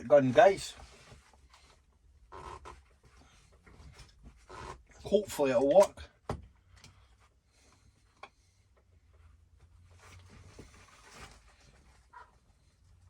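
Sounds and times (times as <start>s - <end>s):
soft rubbing and handling noise: 0.0s - 5.9s, 6.5s - 13.0s.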